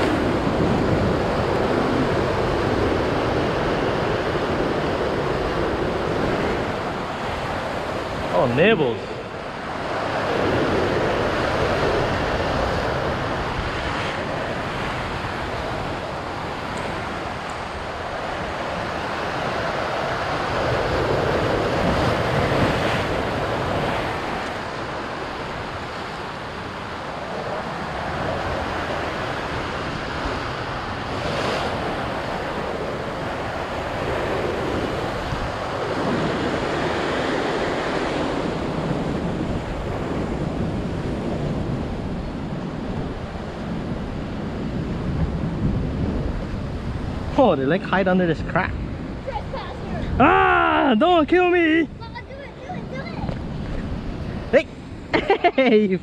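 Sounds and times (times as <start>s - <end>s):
ocean surf breaking on rocks: 0.0s - 56.0s.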